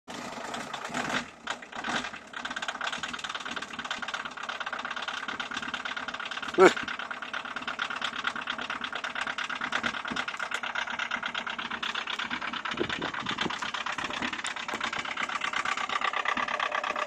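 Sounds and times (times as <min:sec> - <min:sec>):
diesel engine idling clatter: 0:00.1 - 0:17.0.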